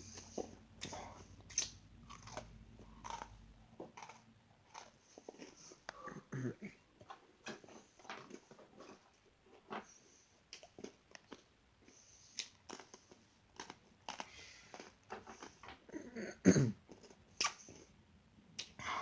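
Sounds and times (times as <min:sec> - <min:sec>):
cookies being chewed: 0:00.0 - 0:16.1, 0:16.8 - 0:18.0.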